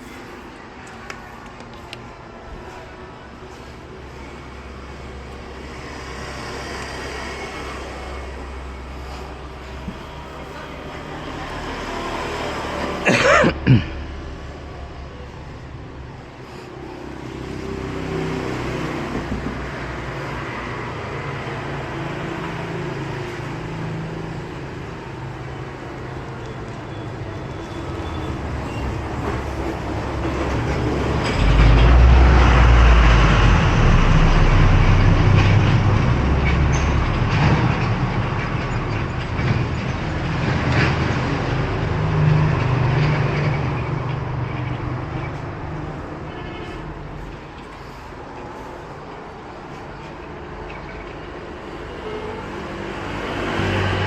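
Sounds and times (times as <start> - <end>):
vehicle rumble in motion: 0.0 - 54.0.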